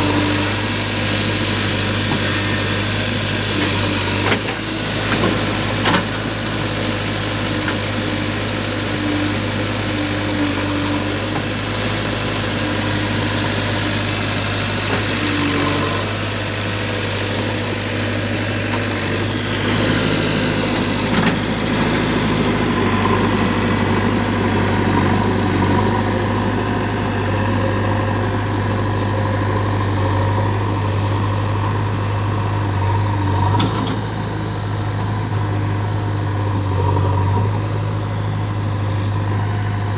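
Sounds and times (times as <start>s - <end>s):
heavy diesel engine idling: 0.0s - 39.9s.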